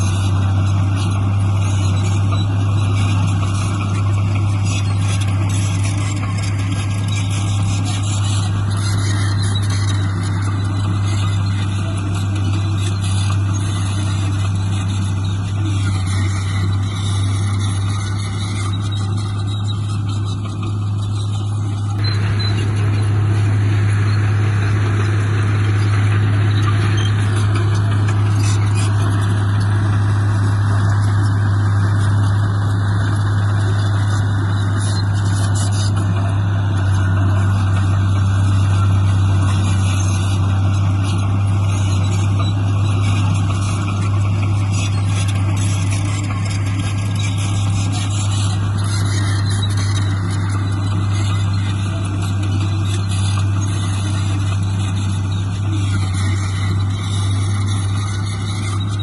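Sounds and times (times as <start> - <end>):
heavy diesel engine drone: 0.0 - 59.0.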